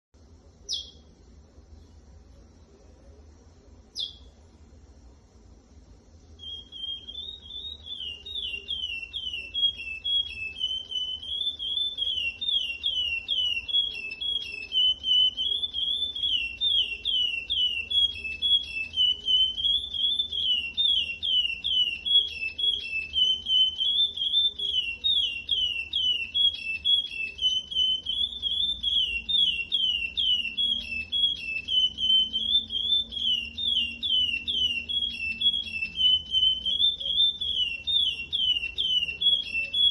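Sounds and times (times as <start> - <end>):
finch singing whistled song: 0.7 - 1.1, 3.9 - 4.4, 6.4 - 39.9.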